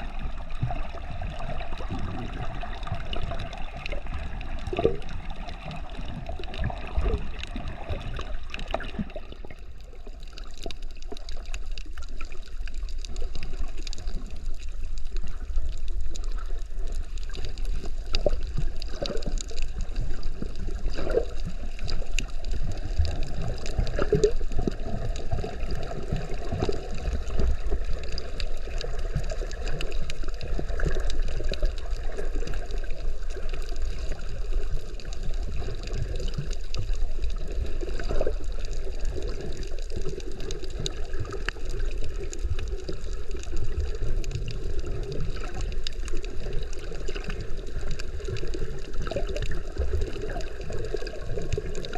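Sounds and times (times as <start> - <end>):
water gurgling and sloshing: 0.0 - 51.9.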